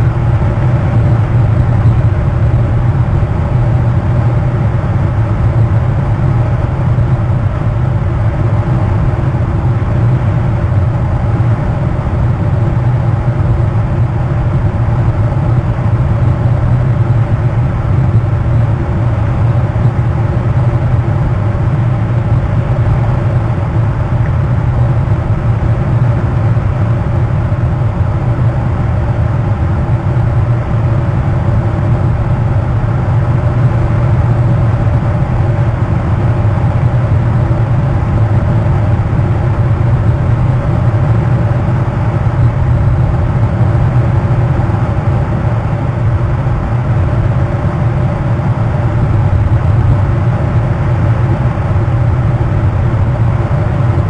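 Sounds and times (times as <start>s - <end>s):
low droning hum: 0.0s - 54.0s.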